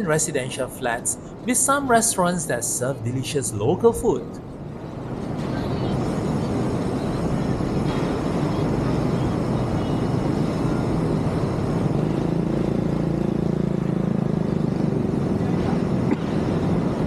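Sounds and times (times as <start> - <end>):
traffic hum: 0.0 - 17.0
vehicle engine passing close: 2.7 - 17.0.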